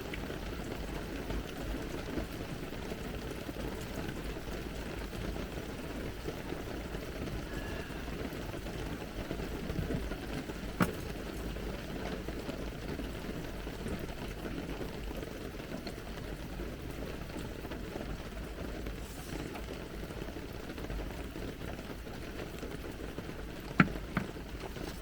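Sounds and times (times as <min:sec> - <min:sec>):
heavy rain pattering: 0:00.0 - 0:25.0.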